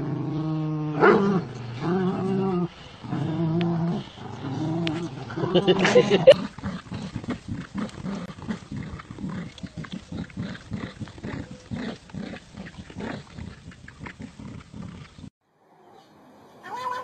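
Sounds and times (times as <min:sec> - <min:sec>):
dogs growling in play: 0:00.0 - 0:15.3.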